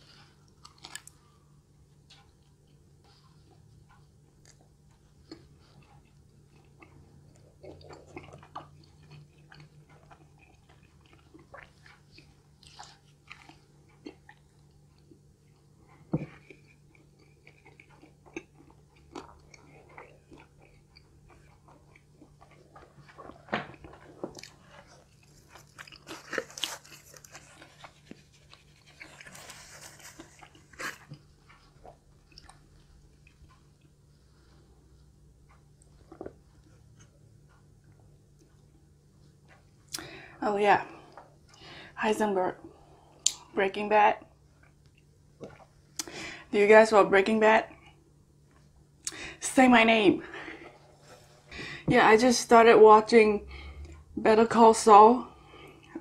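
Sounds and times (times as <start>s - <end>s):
chewing crispy fried food: 0.0s - 43.6s, 44.2s - 46.5s.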